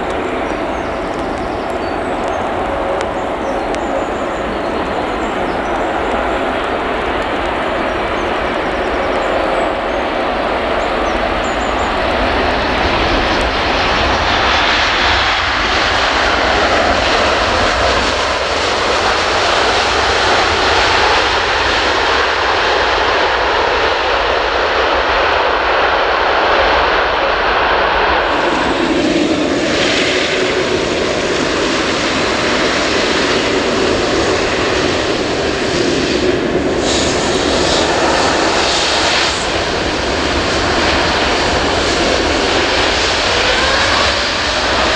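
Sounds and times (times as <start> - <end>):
jet engines running loud: 0.0 - 44.9.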